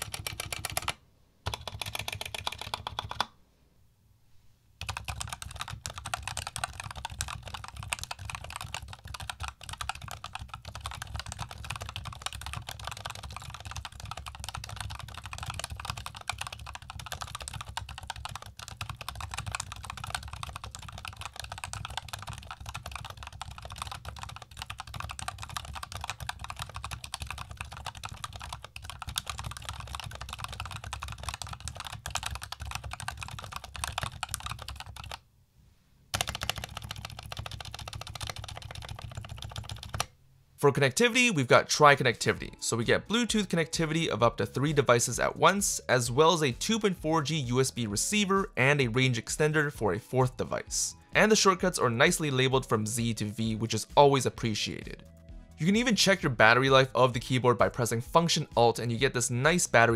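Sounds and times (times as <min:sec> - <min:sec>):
fast keyboard typing: 0:00.0 - 0:03.3, 0:04.8 - 0:35.2, 0:36.1 - 0:40.1, 0:43.1 - 0:59.9.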